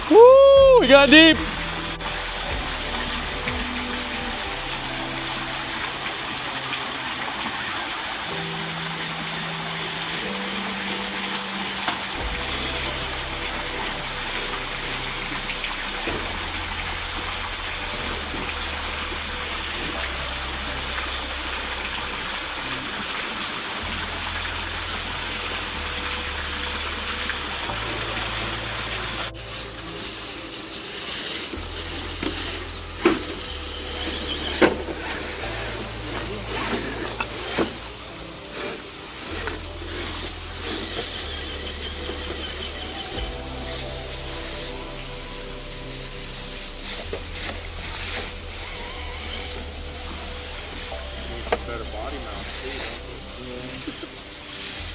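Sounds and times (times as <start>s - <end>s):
low bass line music: 0.0s - 54.9s
waterfall rushing: 0.0s - 54.9s.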